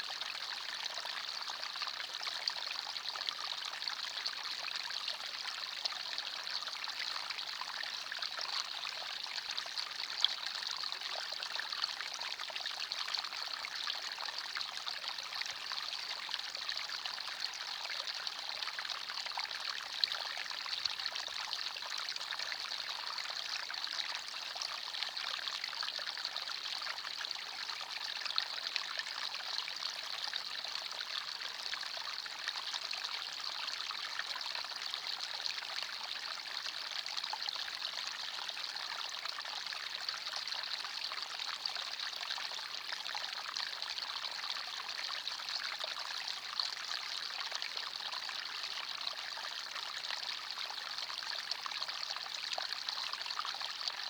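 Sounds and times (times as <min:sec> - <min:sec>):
stream trickling over stones: 0:05.3 - 0:54.0.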